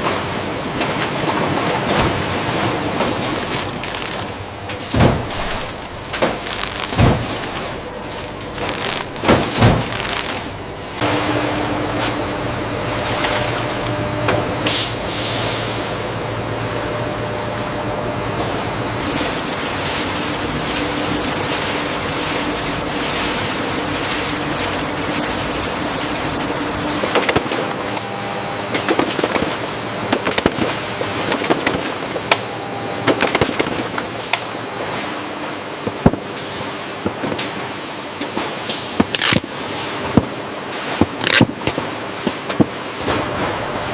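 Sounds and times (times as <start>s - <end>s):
factory machinery clattering: 0.0s - 43.9s
machinery humming: 0.0s - 43.9s.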